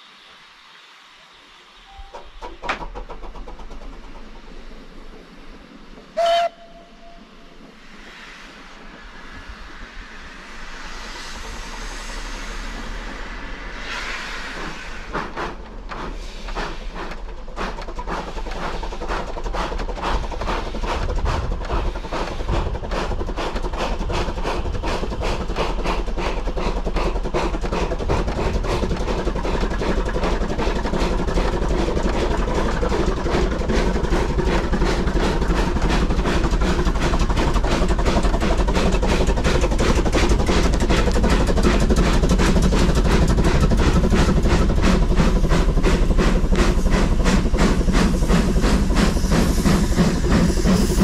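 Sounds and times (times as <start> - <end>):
steam exhaust beats: 0.0 - 51.0.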